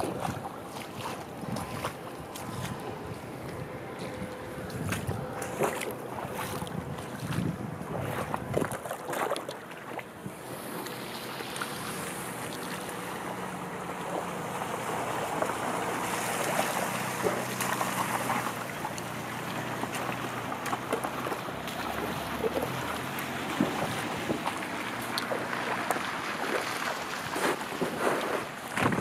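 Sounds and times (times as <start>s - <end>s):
low steady engine hum: 0.0s - 29.0s
wind buffeting microphone: 0.0s - 29.0s.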